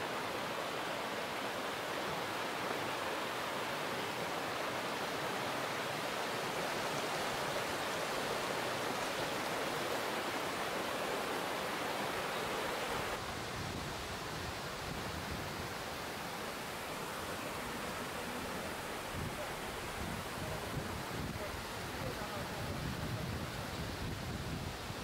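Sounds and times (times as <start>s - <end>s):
stream flowing over stones: 0.0s - 25.0s.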